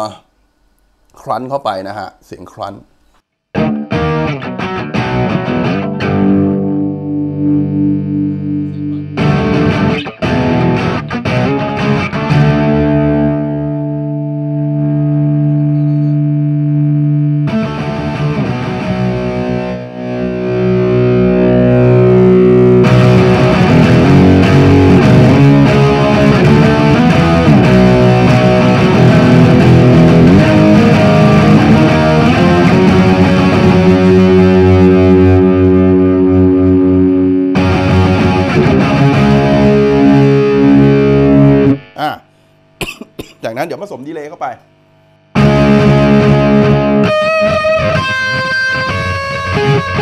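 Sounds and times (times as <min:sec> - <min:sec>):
distorted electric guitar: 0:03.5 - 0:50.0.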